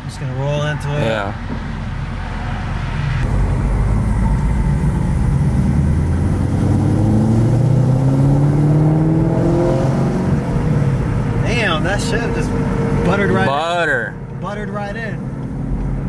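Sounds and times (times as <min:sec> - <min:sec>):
car engine accelerating: 0:00.6 - 0:16.0.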